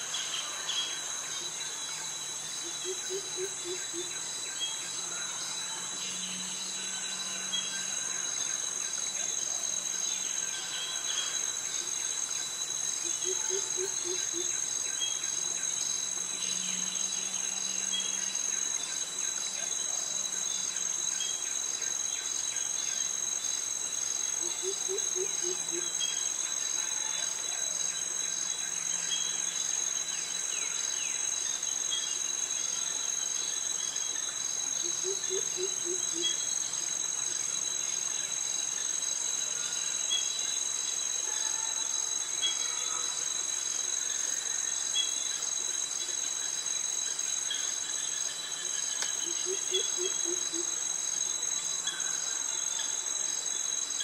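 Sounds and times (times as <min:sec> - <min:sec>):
cicadas and crickets chorus: 0:00.0 - 0:54.0.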